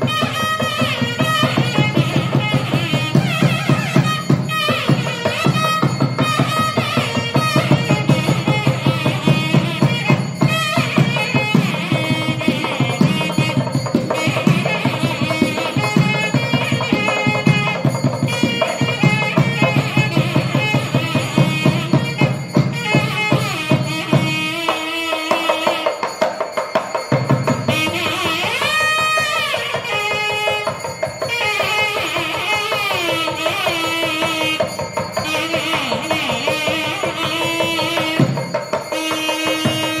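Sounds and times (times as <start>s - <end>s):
double-reed wind instrument melody: 0.0s - 40.0s
drum strokes: 0.0s - 40.0s.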